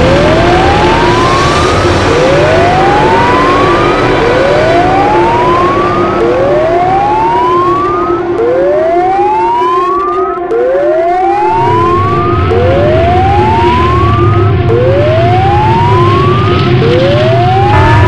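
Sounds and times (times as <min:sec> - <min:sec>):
low rumble: 0:00.0 - 0:08.8, 0:11.4 - 0:18.0
siren-like whoop: 0:00.0 - 0:18.0
steady lower tone: 0:00.0 - 0:18.0.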